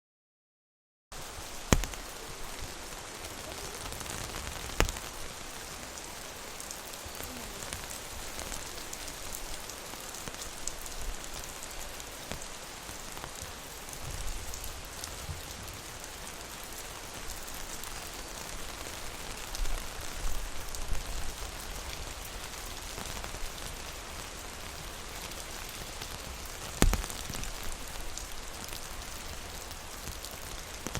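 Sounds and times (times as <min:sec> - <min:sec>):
rain on an umbrella: 0:01.1 - 0:30.9.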